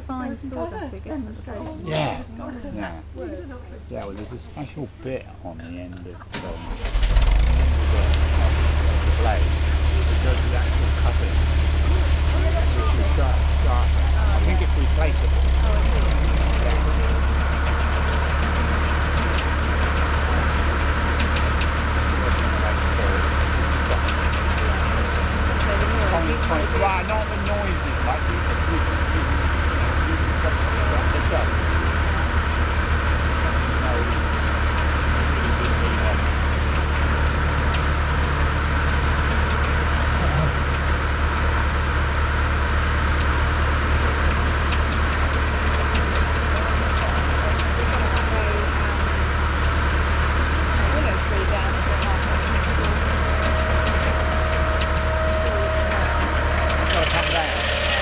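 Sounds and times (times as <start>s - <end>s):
engine running with deep hum: 0.0s - 58.0s.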